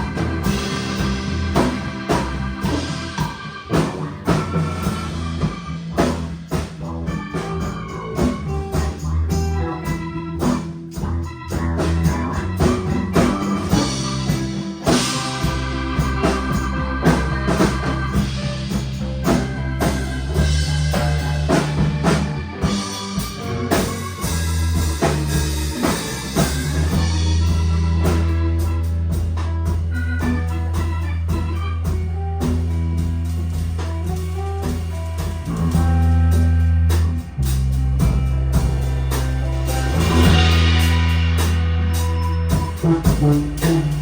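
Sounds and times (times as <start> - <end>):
bass guitar notes: 0.0 - 44.0
drum beat: 0.0 - 44.0
rock band playing: 0.0 - 44.0.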